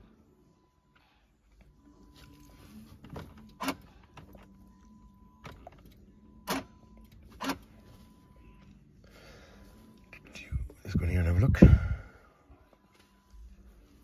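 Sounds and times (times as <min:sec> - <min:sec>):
faint steady high tone: 0:00.0 - 0:14.0.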